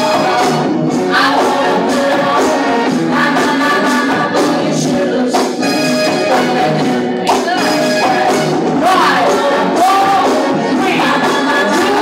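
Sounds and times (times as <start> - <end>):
funk music with singer: 0.0 - 12.0.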